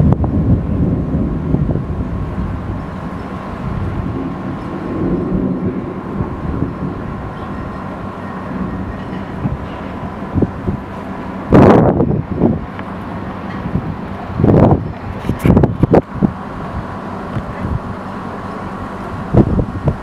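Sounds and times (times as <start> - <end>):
thunder rumbling: 0.0 - 18.4.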